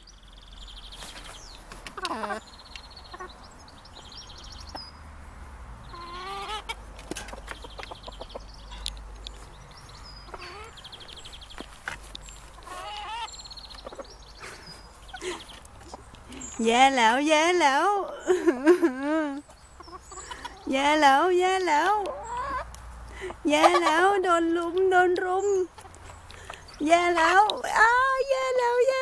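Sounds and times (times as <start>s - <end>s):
chickens clucking and calling: 0.0s - 5.0s, 5.8s - 29.0s.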